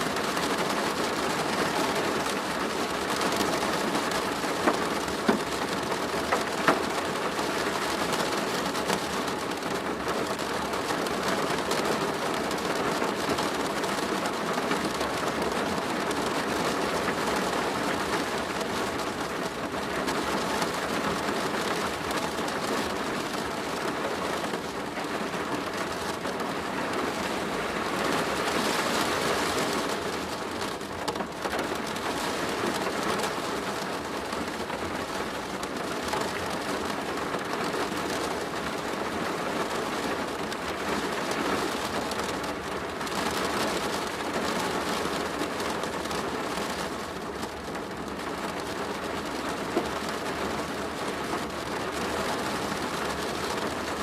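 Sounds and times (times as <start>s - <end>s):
rain on a plastic roof: 0.0s - 54.0s.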